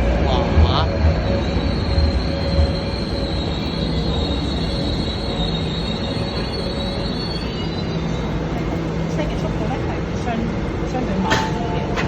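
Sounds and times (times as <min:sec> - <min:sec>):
electric train rumbling on rails: 0:00.0 - 0:12.0.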